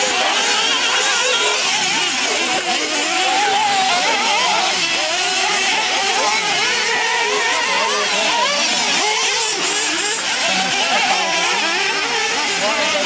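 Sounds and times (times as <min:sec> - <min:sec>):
rc buggy engines revving: 0:00.0 - 0:13.0.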